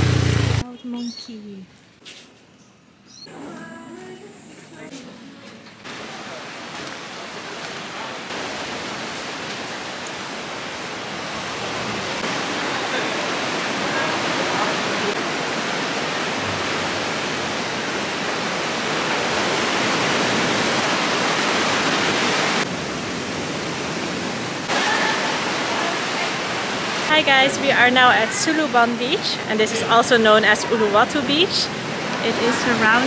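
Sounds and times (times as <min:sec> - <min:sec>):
ocean surf breaking: 0:04.7 - 0:33.0.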